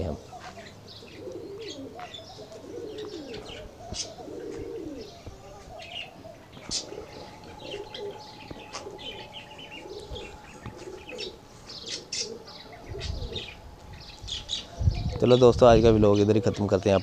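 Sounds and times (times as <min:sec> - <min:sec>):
pigeons cooing: 0:00.0 - 0:17.0
small birds chirping: 0:00.0 - 0:17.0.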